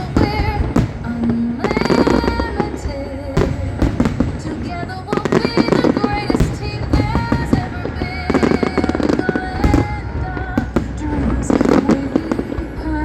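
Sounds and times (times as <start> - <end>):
fireworks bangs and crackles: 0.0 - 12.9
music: 0.0 - 13.0.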